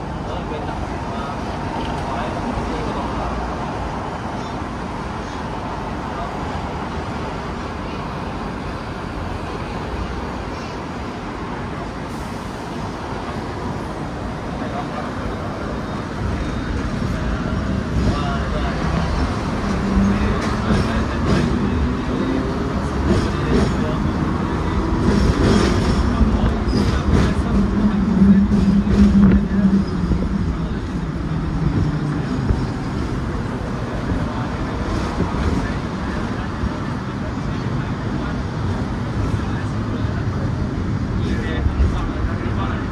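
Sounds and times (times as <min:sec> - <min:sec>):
road traffic noise: 0:00.0 - 0:42.9
tram rumbling: 0:00.0 - 0:42.9.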